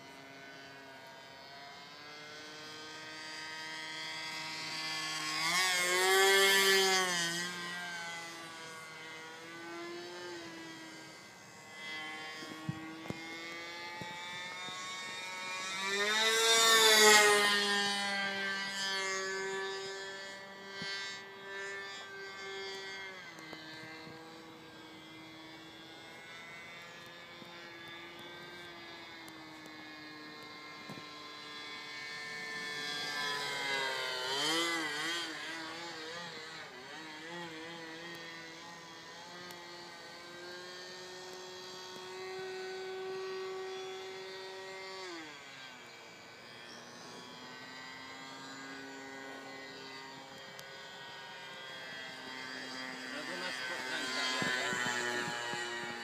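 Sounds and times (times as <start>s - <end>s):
model airplane engine buzzing: 0.0s - 56.0s.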